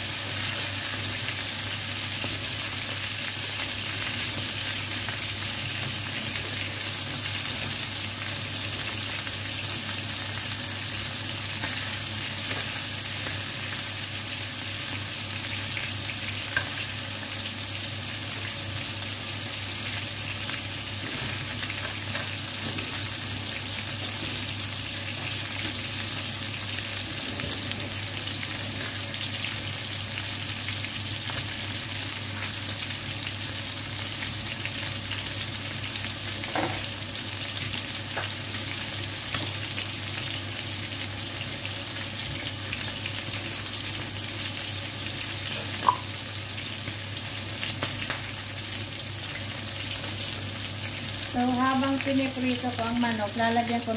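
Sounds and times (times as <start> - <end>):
chicken sizzling in hot oil: 0.0 - 53.9.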